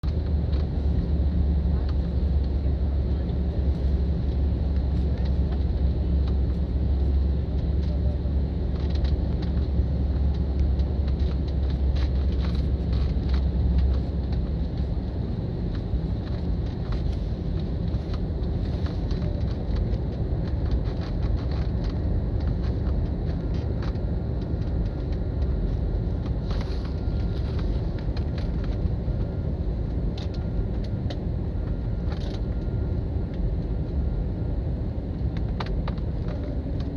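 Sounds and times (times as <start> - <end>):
airliner cabin rumble: 0.0 - 36.9.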